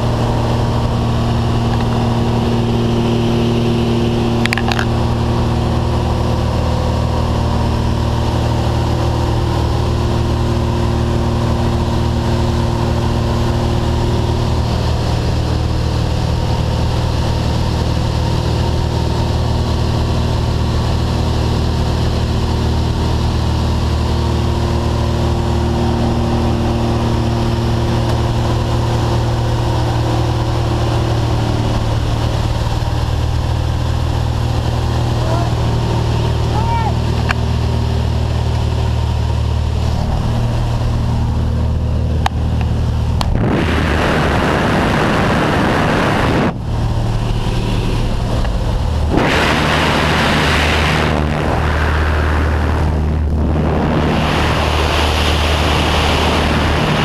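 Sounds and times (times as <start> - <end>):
light aircraft engine droning: 0.0 - 57.0.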